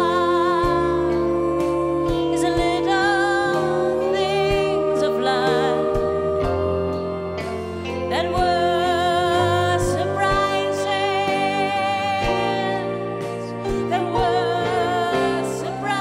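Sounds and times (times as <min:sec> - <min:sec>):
sustained instrumental backing: 0:00.0 - 0:16.0
woman singing with vibrato: 0:00.0 - 0:16.0.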